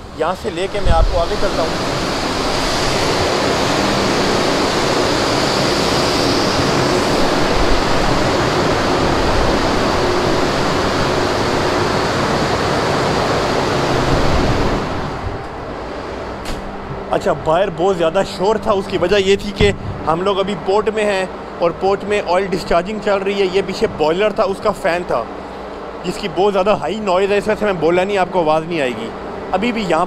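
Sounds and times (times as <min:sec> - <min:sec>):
boiler fan roaring: 0:00.0 - 0:30.0.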